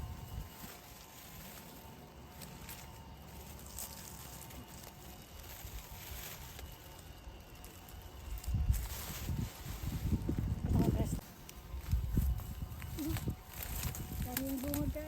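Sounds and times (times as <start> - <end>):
brambles rustling and crackling: 0.0 - 15.0.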